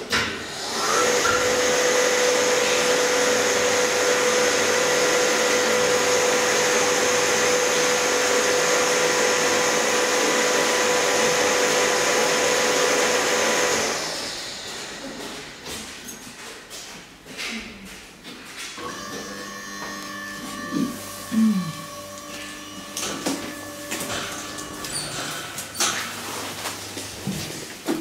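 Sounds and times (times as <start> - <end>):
elevator pump whine and hiss: 0.0 - 16.0, 18.8 - 27.6.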